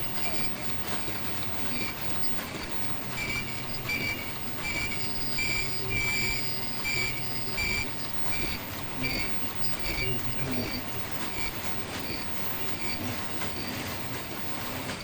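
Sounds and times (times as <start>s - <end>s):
high-pitched machine squeal: 0.0s - 14.9s
machine humming: 0.0s - 15.0s.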